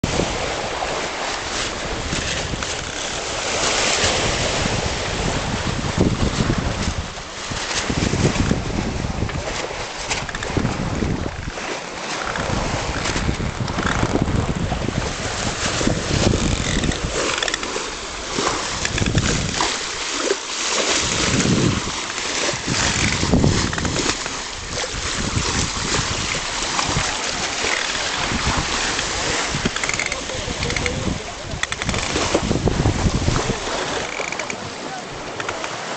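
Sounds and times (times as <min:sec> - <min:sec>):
wind buffeting microphone: 0:00.0 - 0:20.1, 0:20.9 - 0:35.8
sea water and waves rushing: 0:00.0 - 0:35.9.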